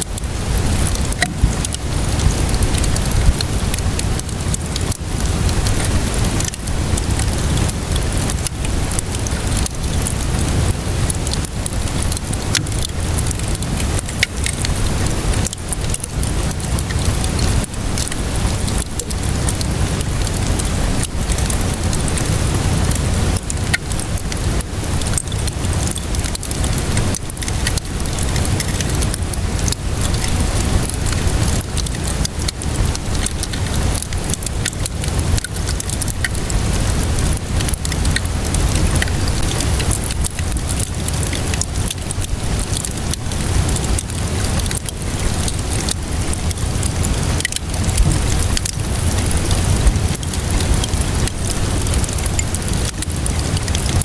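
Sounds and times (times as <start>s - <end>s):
steady rainfall: 0.0s - 54.0s
wood fire crackling: 0.0s - 54.0s.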